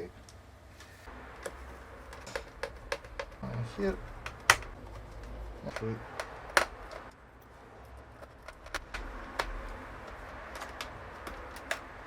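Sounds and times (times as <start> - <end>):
small tools clicking and tapping: 1.3 - 12.0.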